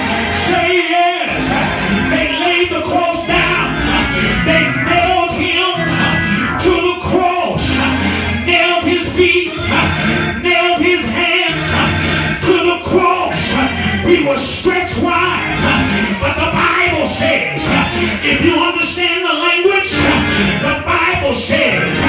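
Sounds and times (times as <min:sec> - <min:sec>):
live church music: 0:00.0 - 0:22.0
preacher chanting amplified: 0:00.0 - 0:22.0.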